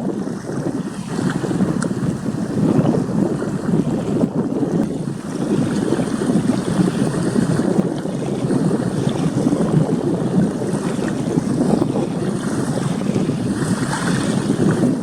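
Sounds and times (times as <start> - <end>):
sea surf: 0.0 - 15.0
wind buffeting microphone: 0.0 - 15.0.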